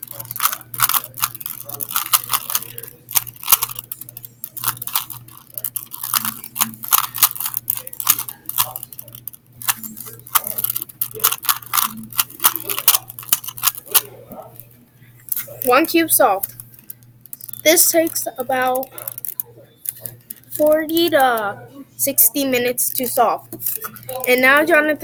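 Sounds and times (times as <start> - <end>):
puzzle cube layers clicking: 0.0 - 14.0, 15.3 - 24.6.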